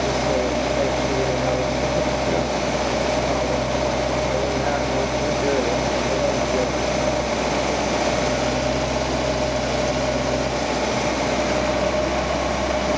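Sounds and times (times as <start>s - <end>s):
car engine idling rough: 0.0s - 12.9s.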